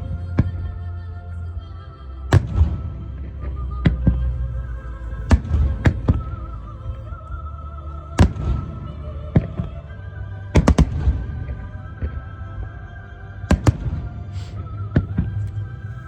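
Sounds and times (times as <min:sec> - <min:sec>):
music with long held notes: 0:00.0 - 0:16.0.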